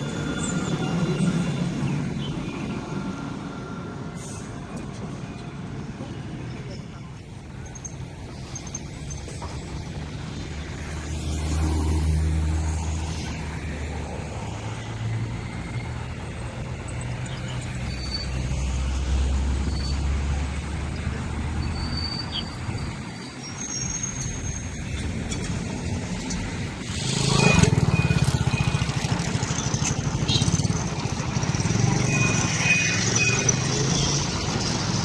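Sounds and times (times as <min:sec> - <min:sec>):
car and bus engines rumbling: 0:00.0 - 0:35.0.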